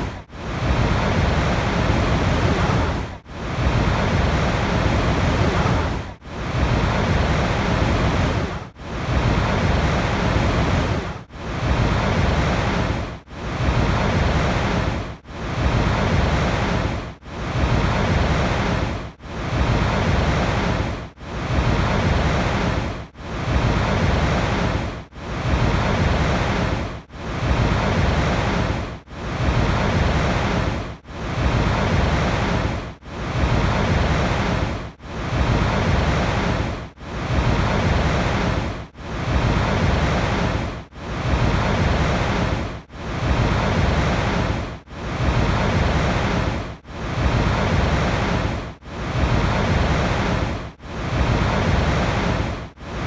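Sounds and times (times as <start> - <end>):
rushing water in swells: 0.0 - 53.0.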